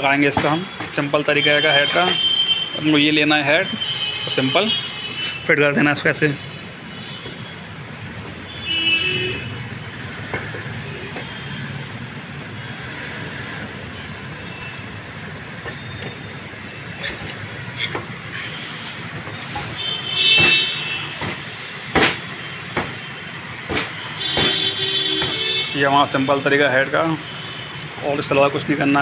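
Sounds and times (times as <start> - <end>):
road traffic hum: 0.0 - 29.0.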